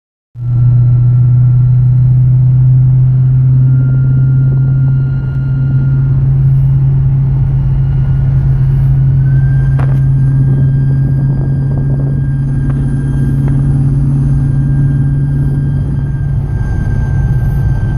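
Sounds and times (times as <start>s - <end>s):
car low hum with whining: 0.4s - 17.9s.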